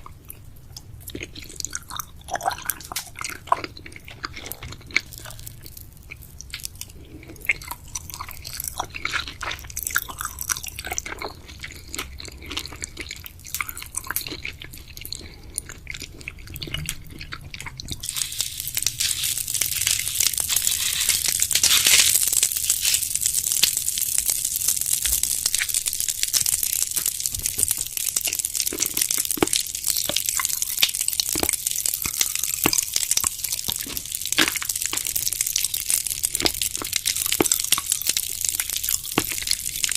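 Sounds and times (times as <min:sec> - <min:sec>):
dense continuous crackling: 0:00.0 - 0:39.9
wet chewing of gummy candy: 0:00.0 - 0:39.9.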